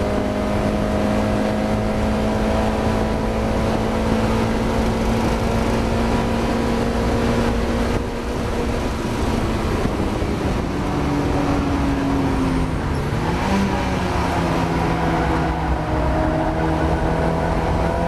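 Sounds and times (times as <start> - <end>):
race car engine: 0.0 - 18.0
road and wind noise: 0.0 - 18.0.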